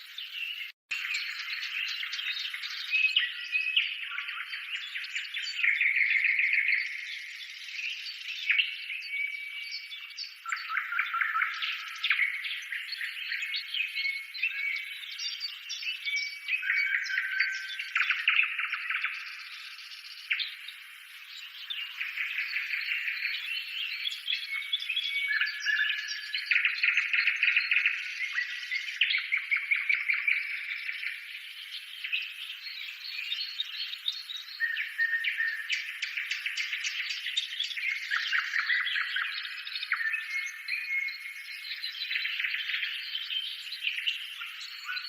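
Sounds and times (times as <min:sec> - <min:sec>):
birds chirping and trilling: 0:00.0 - 0:45.0.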